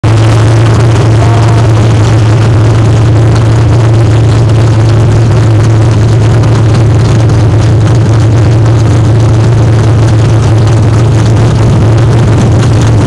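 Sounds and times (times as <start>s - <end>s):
stock car engines running: 0.0s - 13.0s.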